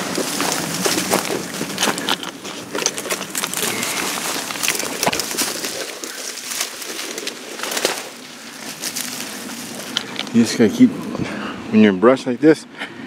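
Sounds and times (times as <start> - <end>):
footsteps on loose ground: 0.0 - 11.2
twigs crackling and snapping: 0.0 - 11.2.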